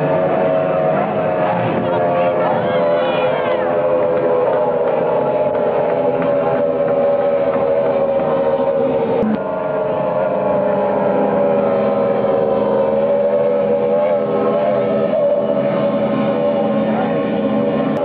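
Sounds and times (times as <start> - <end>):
boat engines droning: 0.0 - 18.0
steady low hum: 0.0 - 18.0.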